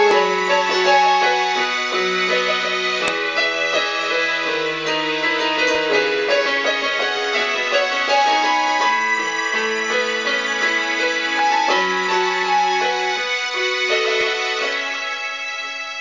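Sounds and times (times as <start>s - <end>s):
electronic keyboard piano melody: 0.0s - 16.0s.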